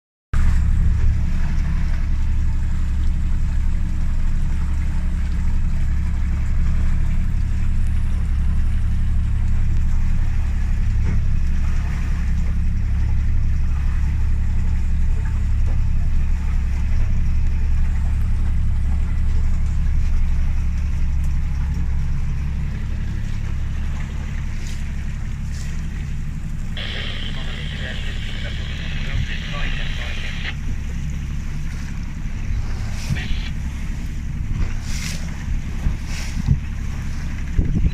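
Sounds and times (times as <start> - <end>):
motorboat engine droning: 0.4 - 37.9.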